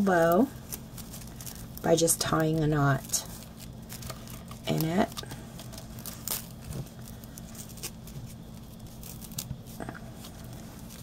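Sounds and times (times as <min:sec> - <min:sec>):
fabric ribbon rustling: 0:00.0 - 0:11.0
steady low hum: 0:00.0 - 0:11.0.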